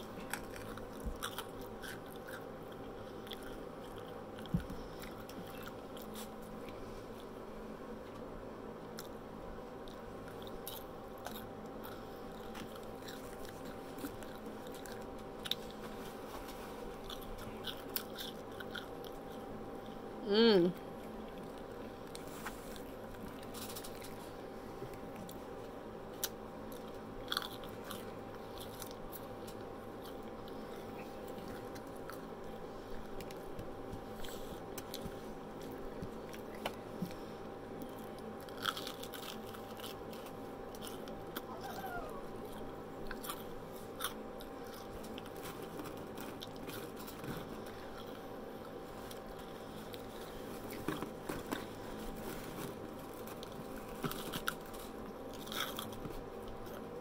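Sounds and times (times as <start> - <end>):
crunching and chewing: 0.0 - 57.0
faint steady hum: 0.0 - 57.0.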